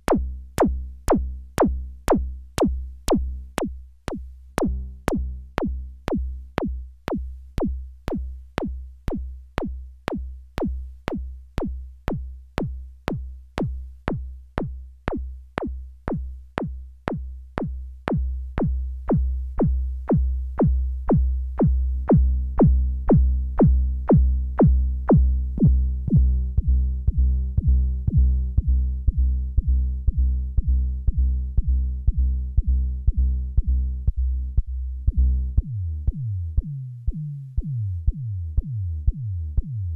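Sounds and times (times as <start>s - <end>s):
punchy kick drum: 0.0s - 33.7s
deep synth bass: 0.0s - 39.9s.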